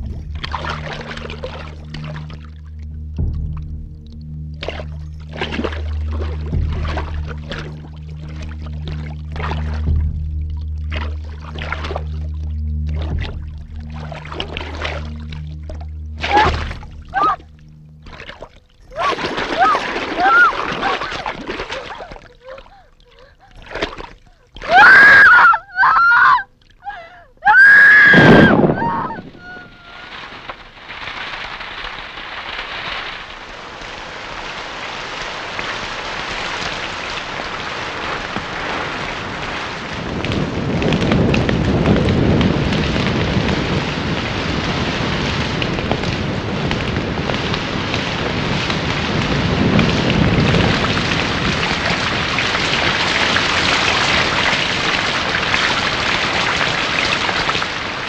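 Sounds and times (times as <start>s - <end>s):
rain downpour: 0.0s - 18.1s, 18.8s - 23.2s, 27.5s - 58.0s
low rumbles: 0.0s - 25.7s, 26.4s - 58.0s.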